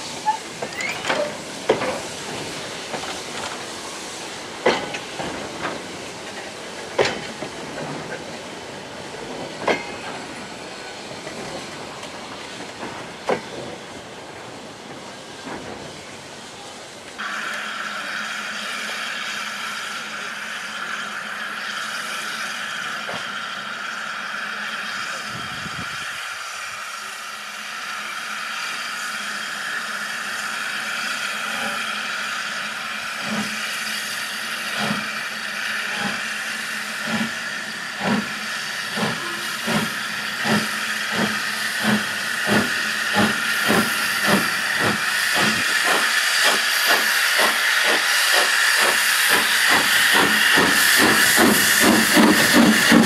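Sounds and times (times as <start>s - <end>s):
steam hissing: 0.0s - 53.0s
steam locomotive exhaust beats: 1.2s - 53.0s.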